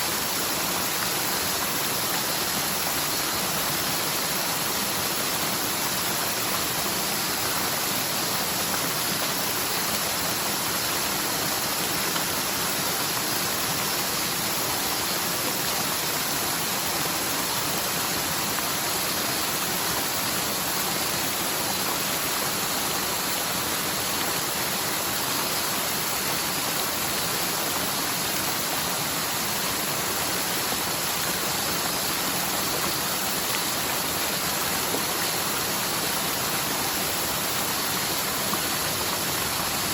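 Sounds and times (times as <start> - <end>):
stream rushing over its bed: 0.0 - 39.9.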